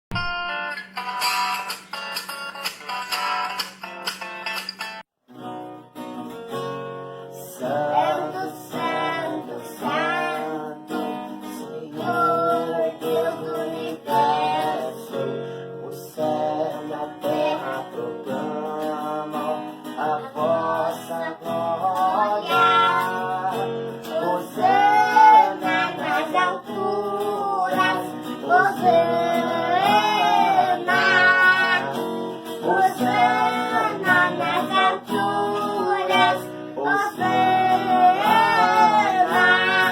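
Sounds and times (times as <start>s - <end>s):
guitar accompaniment: 0.1s - 39.9s
boy and man singing: 7.3s - 39.9s.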